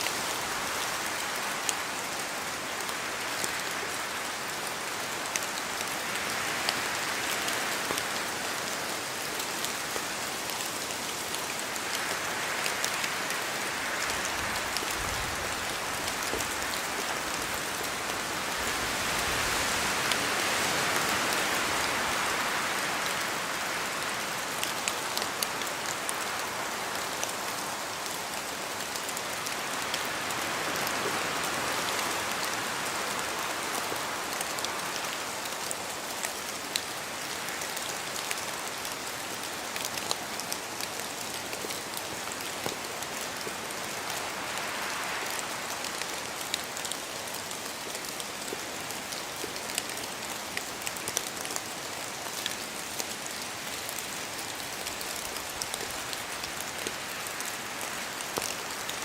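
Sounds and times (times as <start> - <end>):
steady rain in forest: 0.0 - 59.0
wind: 0.0 - 59.0.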